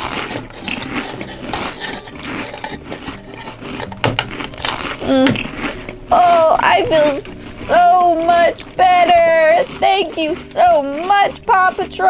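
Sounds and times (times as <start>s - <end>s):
toy pieces clicking and rustling: 0.0s - 5.9s, 6.6s - 12.0s.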